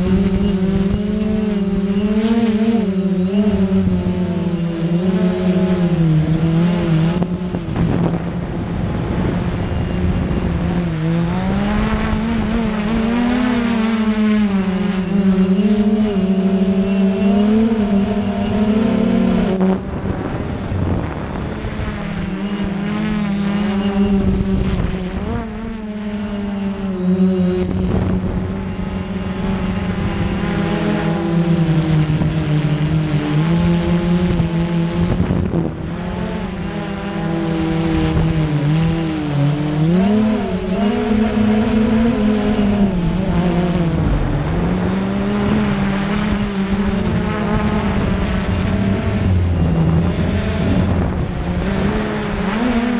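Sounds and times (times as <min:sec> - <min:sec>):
drone propellers humming: 0:00.0 - 0:52.9.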